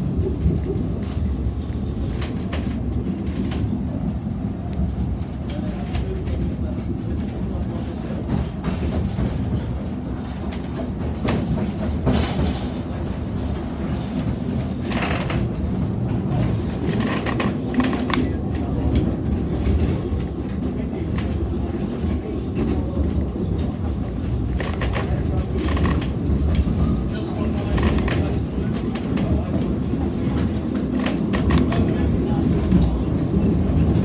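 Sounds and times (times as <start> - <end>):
train carriage rumbling on track: 0.0 - 34.0
train wheel clicks and rattles: 0.3 - 34.0.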